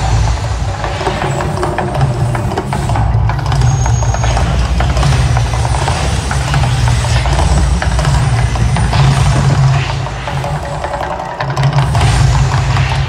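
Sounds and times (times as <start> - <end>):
fireballs crackling: 0.0 - 11.1
low rumble: 0.0 - 11.1.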